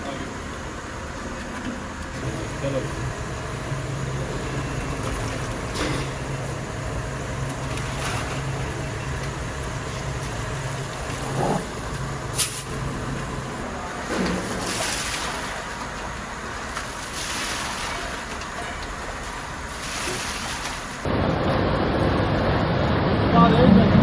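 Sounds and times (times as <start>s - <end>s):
factory machinery humming: 0.0s - 24.0s.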